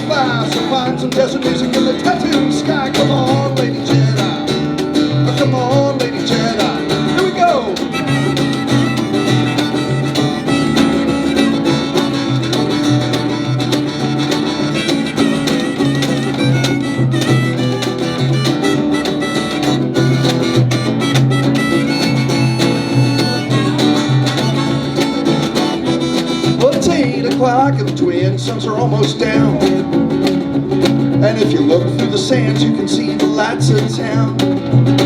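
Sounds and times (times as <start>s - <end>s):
bass line: 0.0s - 35.0s
drums: 0.0s - 35.0s
lead guitar: 0.0s - 35.0s.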